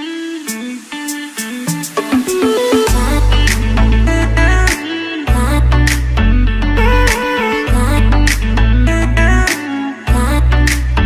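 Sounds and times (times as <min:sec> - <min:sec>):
music with heavy bass and beat: 0:00.5 - 0:11.0.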